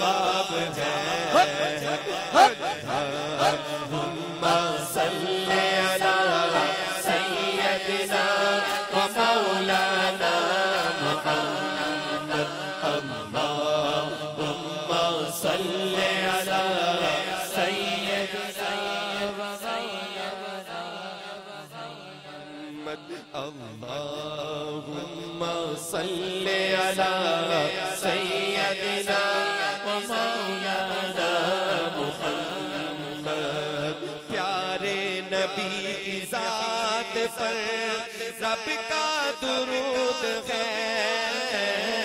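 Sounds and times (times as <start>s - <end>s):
man chanting through loudspeaker: 0.0s - 42.0s.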